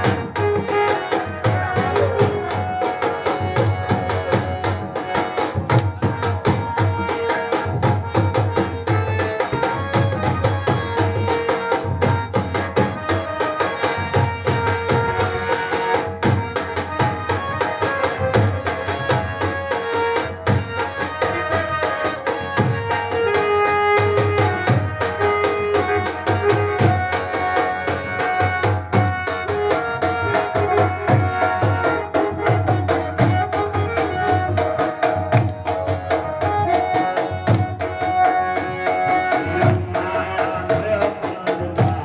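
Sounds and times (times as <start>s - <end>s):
hand drums dance beat: 0.0s - 42.0s.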